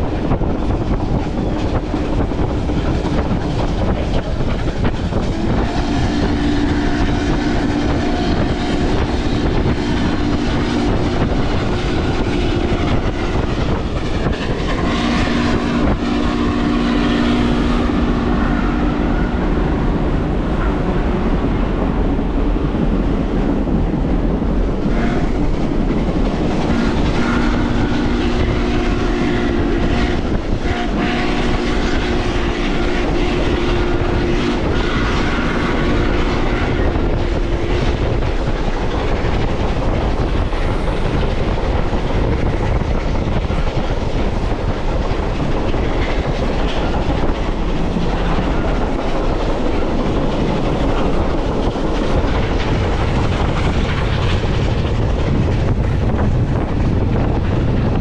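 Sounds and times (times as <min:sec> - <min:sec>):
train wheels clickety-clack on rails: 0:00.0 - 0:58.0.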